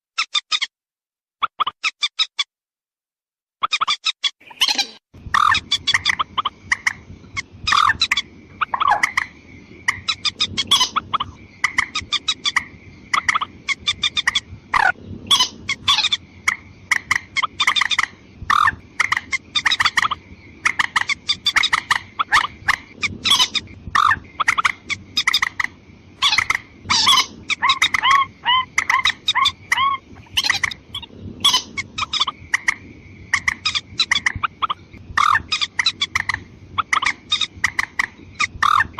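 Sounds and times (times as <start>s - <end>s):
sharp clucking bird calls: 3.6s - 38.9s.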